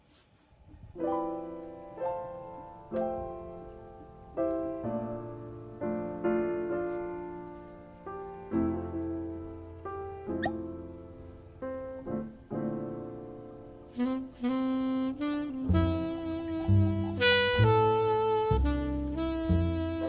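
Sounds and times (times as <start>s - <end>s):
jazz piano slow chords: 0.9s - 20.0s.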